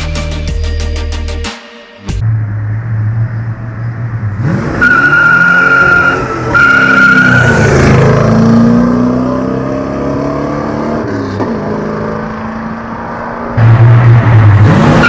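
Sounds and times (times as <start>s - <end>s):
car engine accelerating hard: 2.2s - 15.0s.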